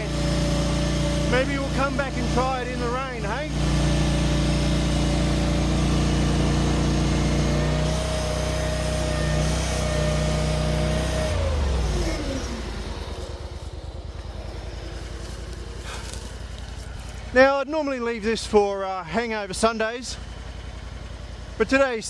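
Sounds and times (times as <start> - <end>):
skid steer engine whining: 0.0 - 22.0.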